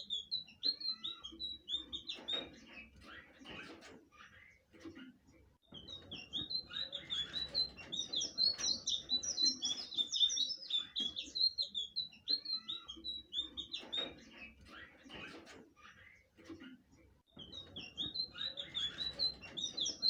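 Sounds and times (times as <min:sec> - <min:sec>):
bird warbling song: 0:00.0 - 0:03.4, 0:05.6 - 0:16.3, 0:17.3 - 0:20.0.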